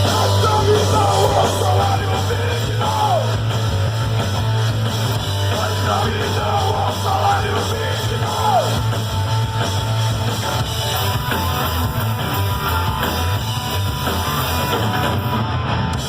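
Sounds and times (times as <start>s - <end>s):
electric guitar: 0.0s - 16.0s
punk rock band playing live: 0.0s - 16.0s.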